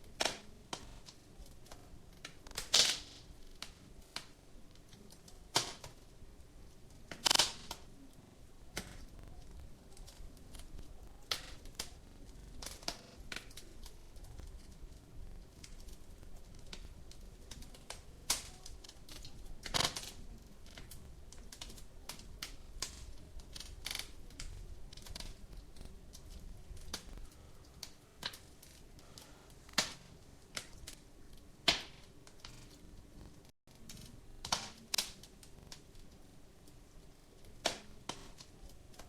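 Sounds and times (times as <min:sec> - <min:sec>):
fire pops: 0:00.0 - 0:39.0
low rumble of flames: 0:00.0 - 0:39.0
wood fire crackling: 0:00.0 - 0:39.0.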